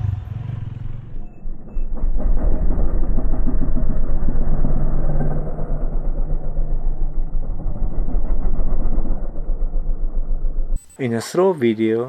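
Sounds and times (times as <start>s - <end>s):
single-cylinder engine running: 0.0s - 10.7s.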